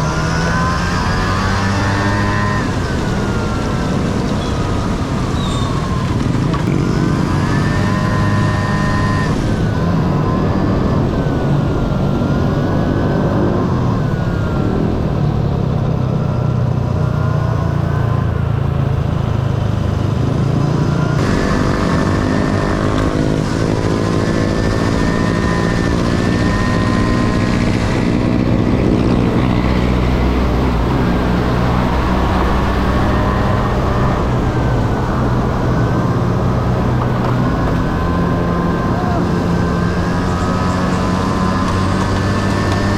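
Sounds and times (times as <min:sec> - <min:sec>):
scooter engine accelerating: 0:00.0 - 0:42.9.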